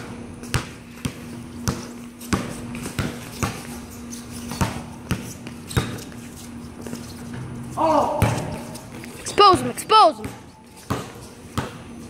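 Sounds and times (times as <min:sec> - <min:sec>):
basketball bouncing on concrete: 0:00.0 - 0:12.0.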